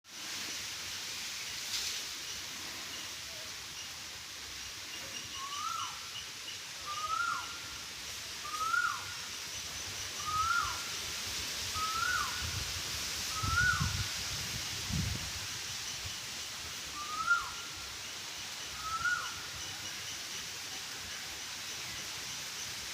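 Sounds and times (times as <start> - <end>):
steady outdoor hiss: 0.0 - 22.9.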